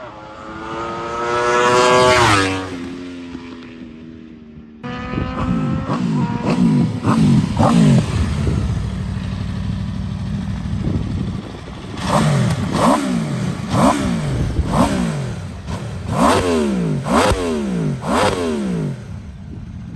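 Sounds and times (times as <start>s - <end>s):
motorcycle engine revving: 0.0s - 4.0s, 4.8s - 19.9s.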